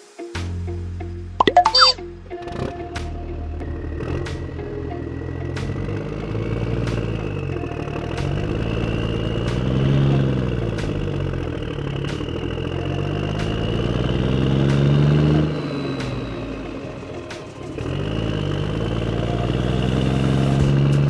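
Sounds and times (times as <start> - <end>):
tractor-like engine: 3.6 - 21.0.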